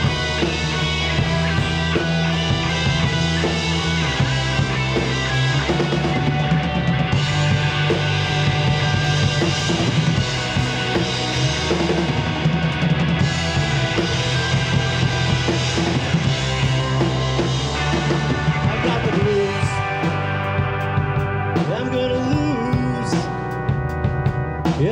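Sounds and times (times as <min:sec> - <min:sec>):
bass guitar: 0:00.0 - 0:24.9
drum kit: 0:00.0 - 0:24.9
electric guitars: 0:00.0 - 0:24.9.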